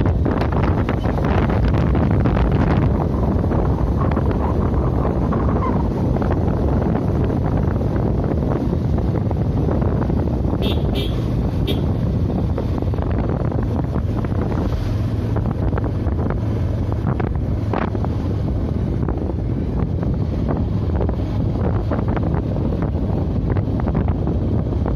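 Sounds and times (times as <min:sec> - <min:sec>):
motorcycle engine: 0:00.0 - 0:24.9
road noise: 0:00.0 - 0:24.9
wind rushing over microphone: 0:00.0 - 0:24.9.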